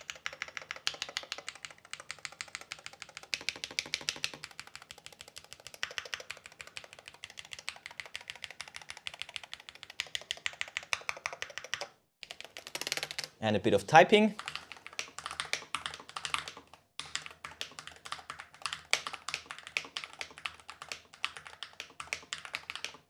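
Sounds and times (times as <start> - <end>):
fast keyboard typing: 0.0 - 13.4, 14.2 - 23.0.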